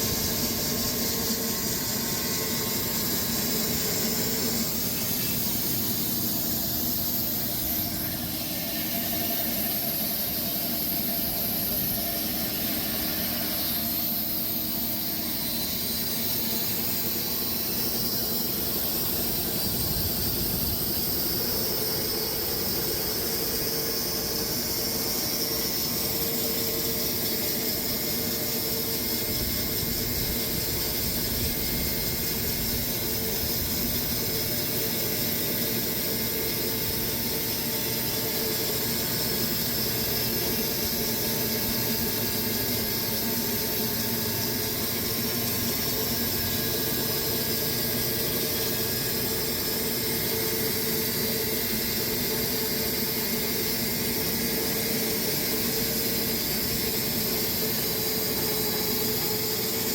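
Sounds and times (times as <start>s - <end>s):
sawmill drone with hiss: 0.0s - 59.9s.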